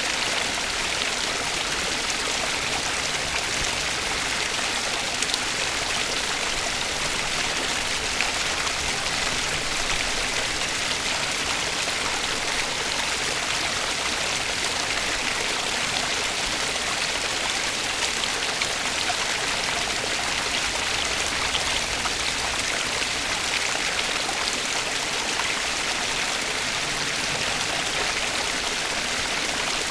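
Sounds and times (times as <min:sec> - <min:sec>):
stream water rushing: 0:00.0 - 0:29.9.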